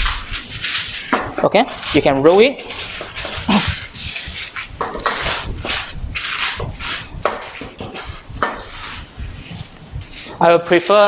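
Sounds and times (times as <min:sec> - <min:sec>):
parchment paper rustling: 0:00.0 - 0:11.0
rolling pin over dough: 0:00.0 - 0:11.0.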